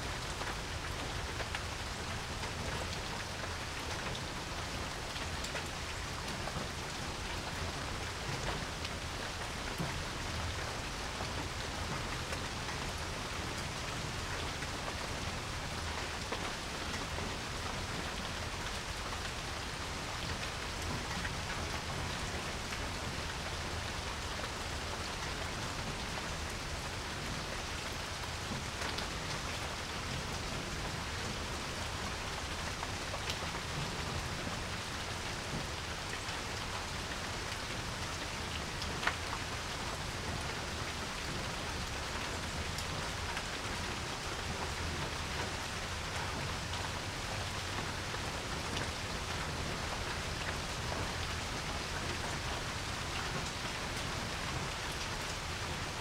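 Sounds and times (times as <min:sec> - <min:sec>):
rain falling on a porch: 0:00.0 - 0:56.0.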